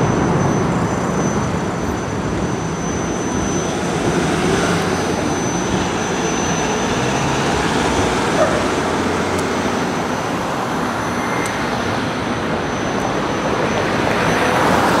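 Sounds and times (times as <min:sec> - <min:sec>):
street traffic road noise: 0:00.0 - 0:15.0.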